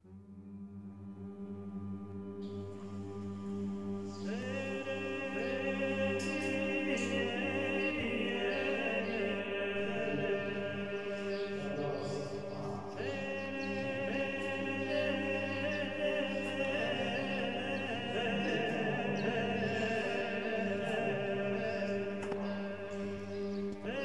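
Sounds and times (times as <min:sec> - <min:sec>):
choir singing long chords: 0:00.0 - 0:24.0.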